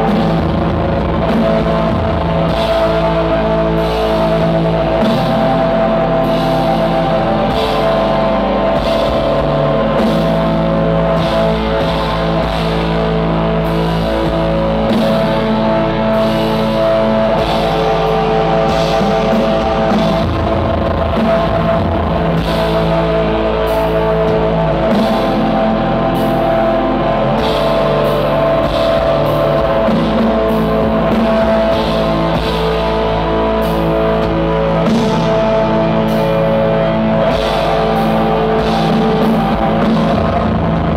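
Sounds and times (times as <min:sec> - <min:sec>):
distorted electric guitars: 0:00.0 - 0:40.9
drums and cymbals: 0:00.0 - 0:40.9.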